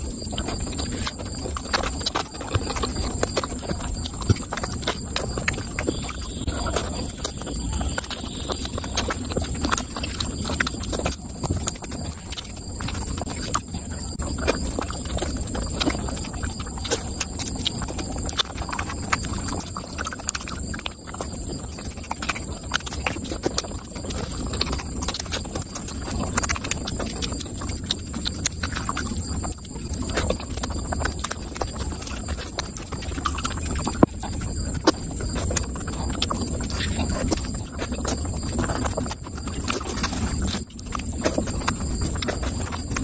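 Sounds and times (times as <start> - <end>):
chewing and lip-smacking: 0.0 - 43.0
steady low hum: 0.0 - 43.0.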